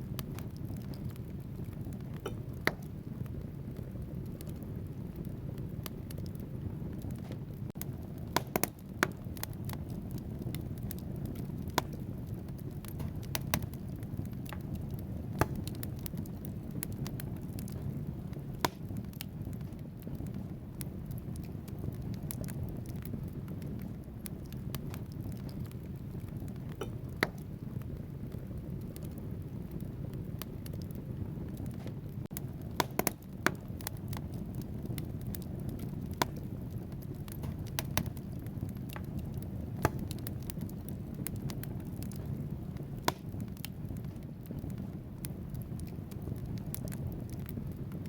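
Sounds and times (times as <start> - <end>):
fire flames rushing: 0.0 - 48.0
logs crackling and popping: 0.0 - 48.0.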